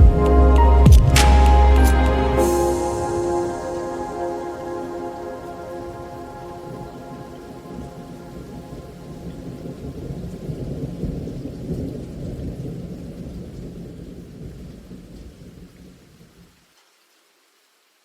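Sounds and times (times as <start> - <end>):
rolling thunder: 0.0 - 15.7
rain hiss: 0.1 - 18.0.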